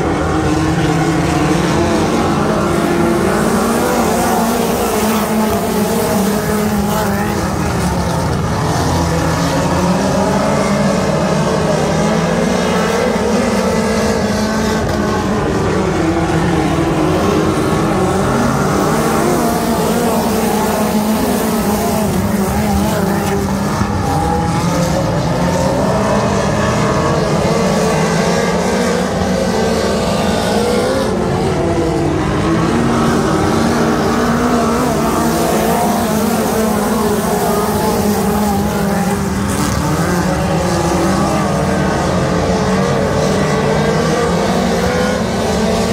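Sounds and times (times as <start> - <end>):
race car engines droning: 0.0 - 45.9.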